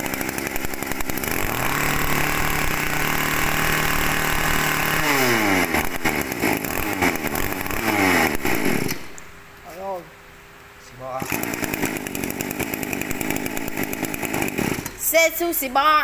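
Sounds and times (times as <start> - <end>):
brush cutter engine revving: 0.0 - 9.2, 11.2 - 15.2.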